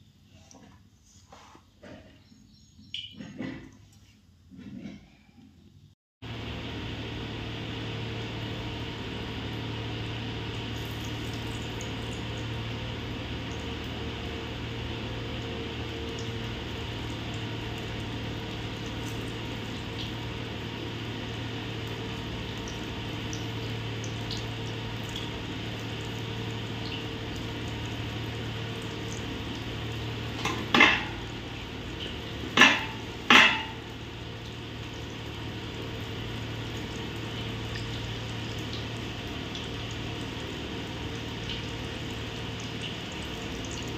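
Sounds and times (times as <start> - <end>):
food deep-frying in oil: 6.2 - 43.9.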